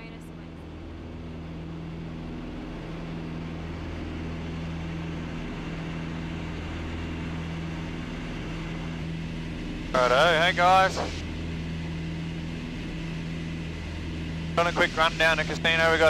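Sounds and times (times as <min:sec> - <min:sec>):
airplane engines droning: 0:00.0 - 0:16.0.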